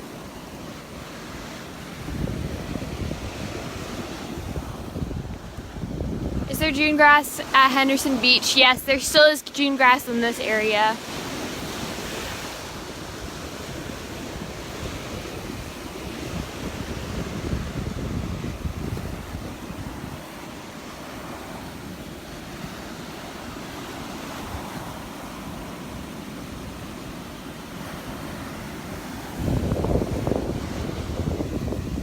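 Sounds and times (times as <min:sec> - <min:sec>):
wind buffeting microphone: 0:00.0 - 0:09.3, 0:11.1 - 0:32.0
surf washing onto beach: 0:00.0 - 0:32.0.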